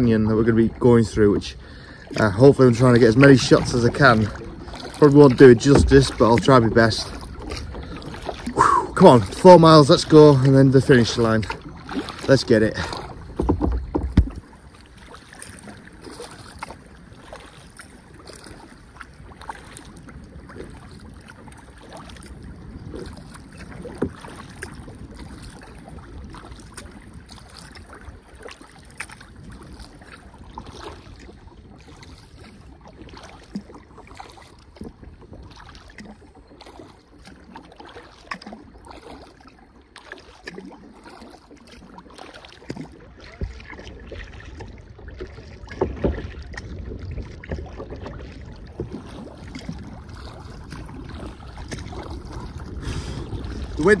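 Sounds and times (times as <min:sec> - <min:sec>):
paddle splashing into water: 0:00.0 - 0:54.0
water washing against hull: 0:00.0 - 0:54.0.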